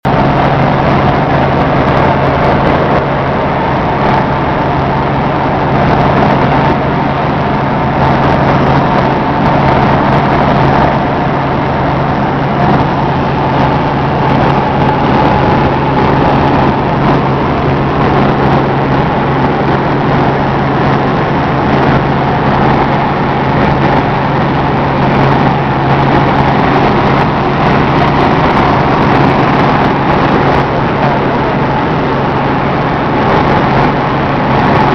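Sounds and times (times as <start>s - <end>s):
helicopter drone inside cabin: 0.0s - 34.9s.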